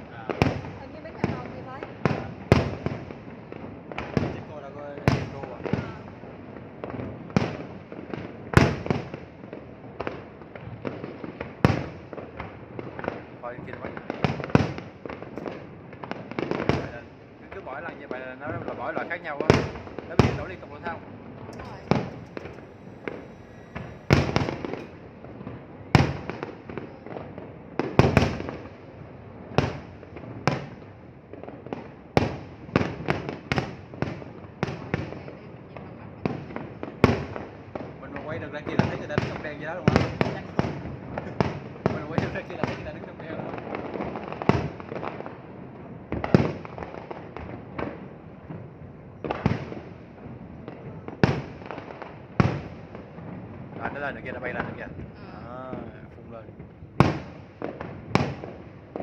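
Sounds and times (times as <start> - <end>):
small firework pops: 0.0 - 28.8, 29.5 - 45.4, 46.1 - 55.9, 56.6 - 59.0
fireworks bursting with echoes: 0.0 - 59.0.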